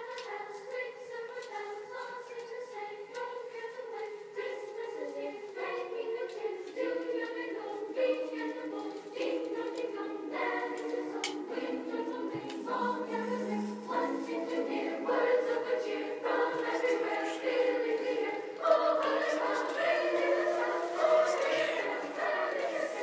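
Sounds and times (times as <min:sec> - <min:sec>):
choir singing chords: 0:00.0 - 0:23.0.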